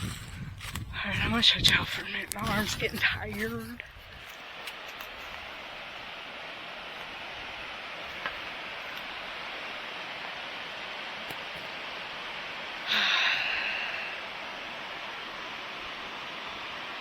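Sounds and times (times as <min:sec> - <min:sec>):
creek water rushing: 0:01.1 - 0:17.0.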